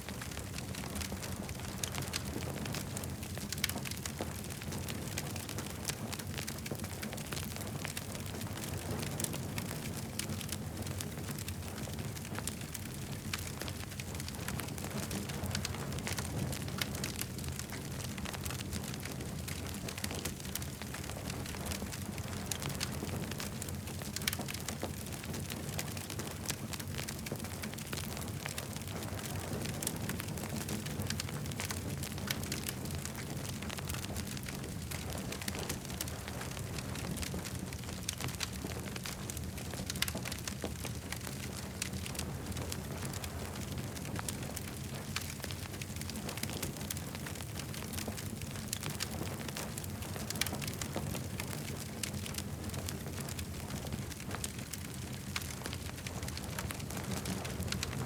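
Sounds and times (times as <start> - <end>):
campfire crackling and popping: 0.0 - 58.0
low fire rumble: 0.0 - 58.0.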